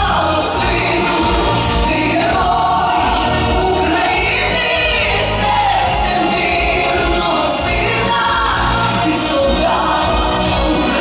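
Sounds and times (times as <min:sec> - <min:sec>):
amplified band accompaniment: 0:00.0 - 0:11.0
steady bass line: 0:00.0 - 0:11.0
woman singing pop song: 0:00.0 - 0:11.0.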